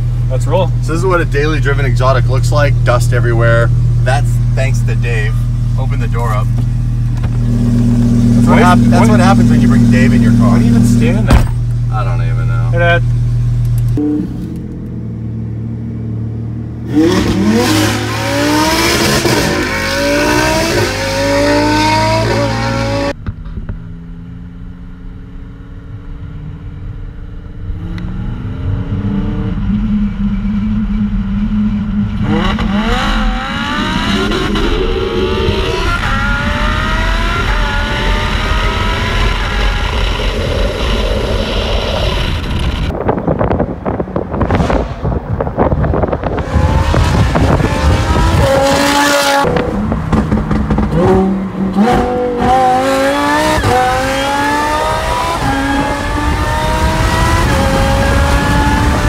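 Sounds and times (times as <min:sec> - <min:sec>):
sports car engine accelerating: 0:00.1 - 0:59.0.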